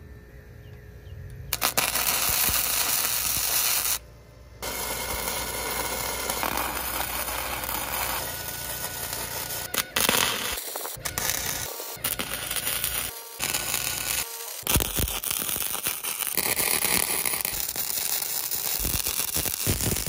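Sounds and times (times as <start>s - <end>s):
sharp clicks of welding gun: 1.5s - 4.0s, 4.7s - 20.0s
welding arc crackling and hissing: 1.5s - 4.0s, 4.6s - 20.0s.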